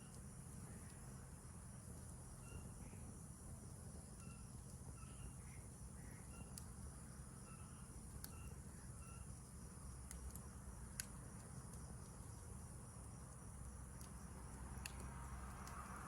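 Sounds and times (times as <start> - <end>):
campfire crackles: 0.0 - 16.0
insects trilling: 0.0 - 16.0.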